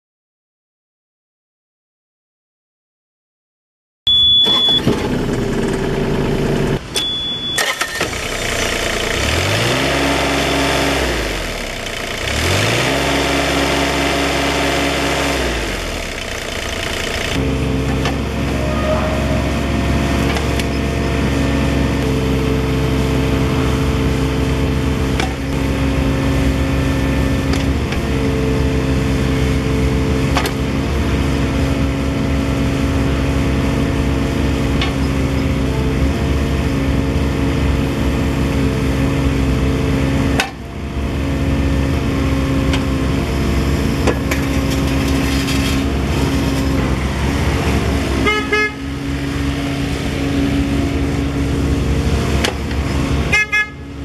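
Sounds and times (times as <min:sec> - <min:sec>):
diesel engine running: 0:04.1 - 0:54.0.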